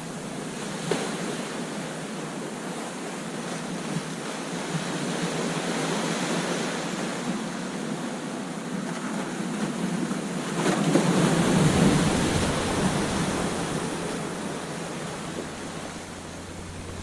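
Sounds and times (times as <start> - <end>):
ocean waves crashing on beach: 0.0 - 17.0.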